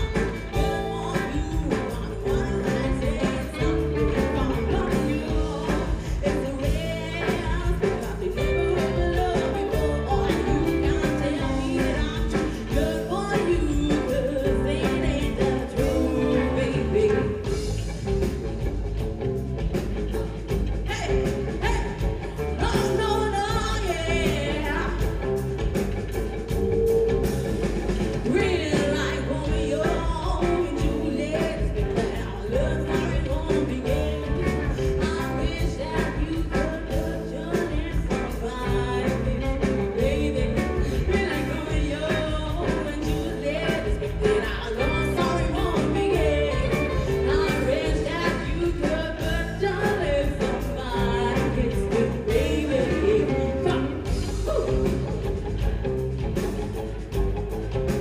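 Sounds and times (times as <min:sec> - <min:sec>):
woman singing lead: 0:00.0 - 0:18.6, 0:19.3 - 0:56.0
bass guitar: 0:00.0 - 0:58.0
electric guitars: 0:00.0 - 0:58.0
steady drum beat: 0:00.0 - 0:58.0.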